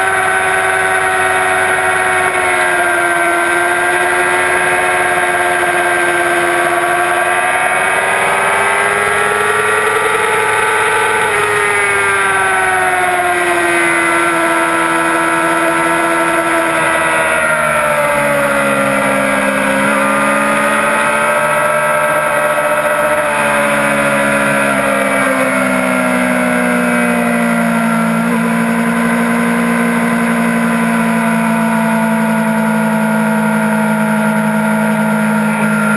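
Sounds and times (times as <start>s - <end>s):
motorcycle engine at high revs: 0.0s - 35.9s.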